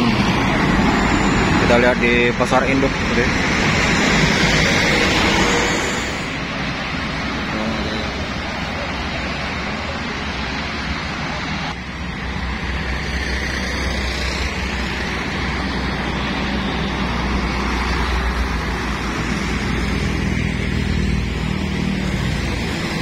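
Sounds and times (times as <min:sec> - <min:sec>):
bus engine rumble: 0:00.0 - 0:23.0
traffic passing: 0:00.0 - 0:23.0.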